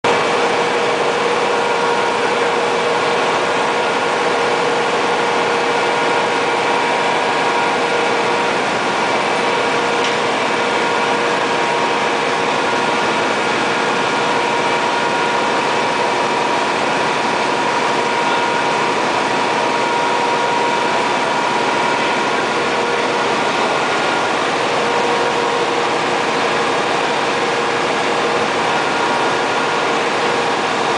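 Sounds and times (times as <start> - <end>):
generators running: 0.0 - 30.9
steady humming tone: 0.1 - 30.9.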